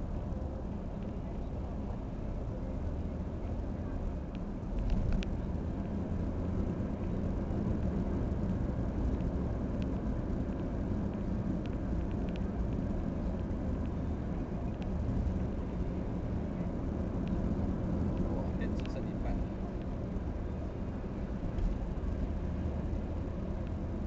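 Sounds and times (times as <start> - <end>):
car rumbling on the move: 0.0 - 24.0.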